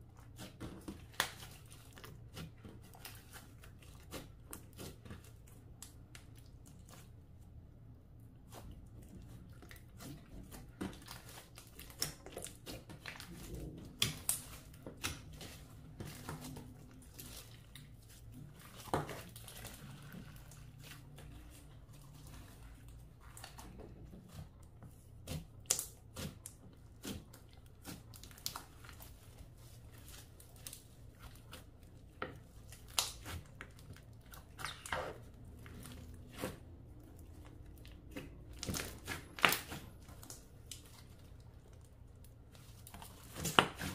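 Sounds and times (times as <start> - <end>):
slime kneaded by hand: 0.0 - 43.9.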